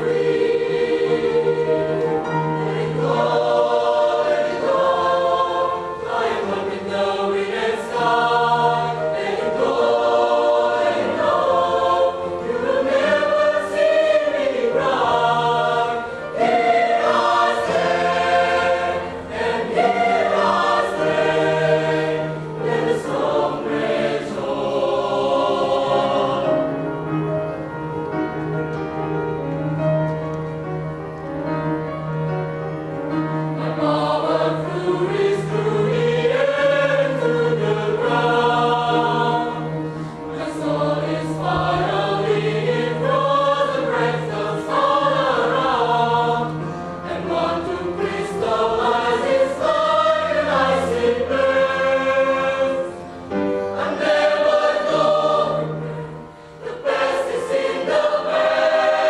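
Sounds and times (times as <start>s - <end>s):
mixed choir singing: 0.0s - 27.7s, 32.9s - 59.0s.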